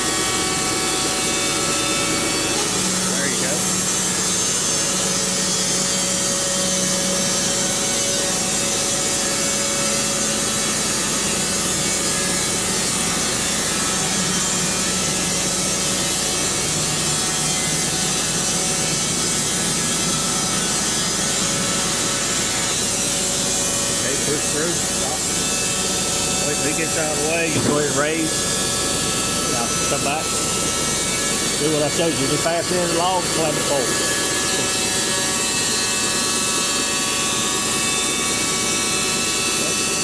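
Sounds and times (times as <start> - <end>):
band saw cutting wood: 0.0 - 40.0.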